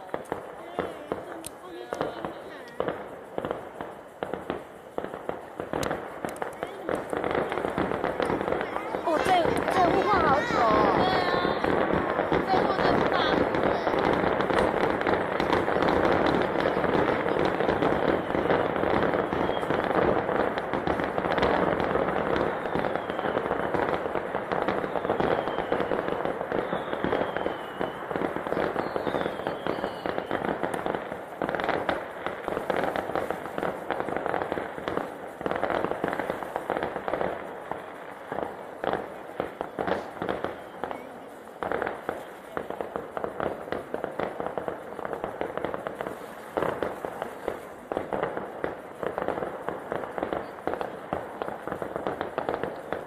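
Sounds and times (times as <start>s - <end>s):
fireworks crackling and banging: 0.0s - 53.0s
fireworks whistling: 0.0s - 53.0s.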